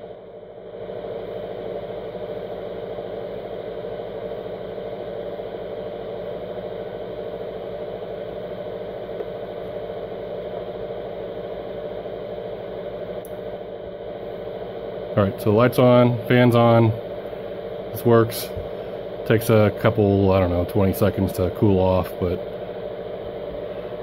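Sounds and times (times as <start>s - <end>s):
power supply humming and rattling: 0.0s - 24.0s.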